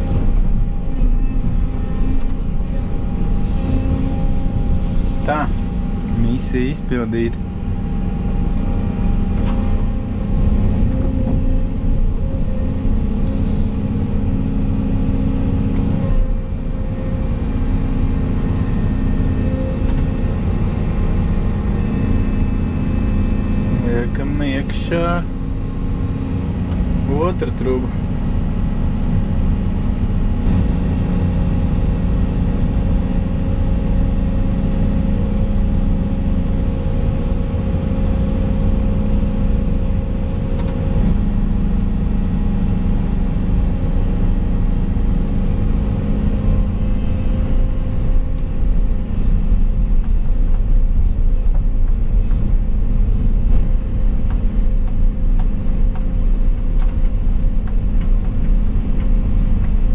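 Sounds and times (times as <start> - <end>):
excavator diesel engine rumble: 0.0 - 59.9.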